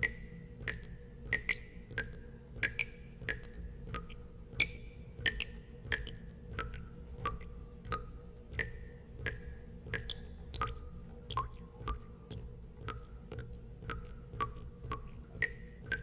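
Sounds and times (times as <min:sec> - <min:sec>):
water drops plinking into water: 0:00.0 - 0:16.0.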